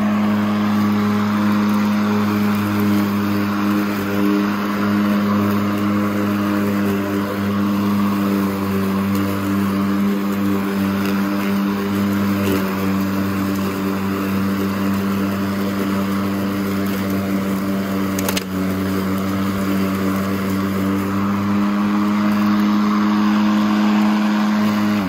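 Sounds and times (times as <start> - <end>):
electric lawn mower whine: 0.0 - 25.0
grass cutting hiss: 0.0 - 25.0.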